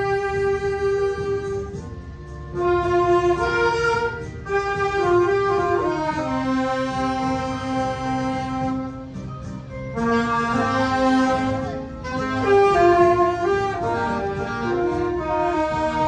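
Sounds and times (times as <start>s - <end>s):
saxophone ensemble playing: 0.0s - 16.0s.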